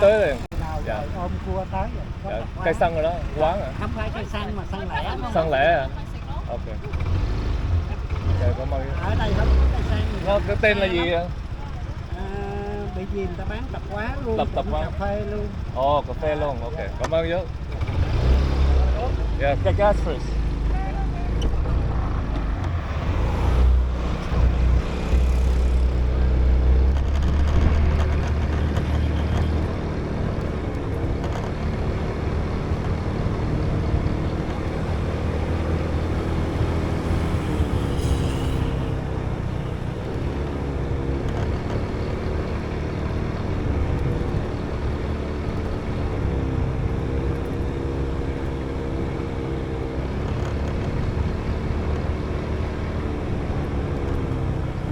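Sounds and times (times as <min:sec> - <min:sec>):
motorbike engine revving: 0:00.0 - 0:54.9.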